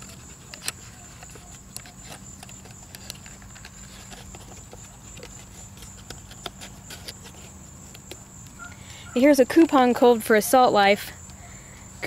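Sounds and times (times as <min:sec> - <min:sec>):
faint steady hum and hiss: 0:00.0 - 0:12.0.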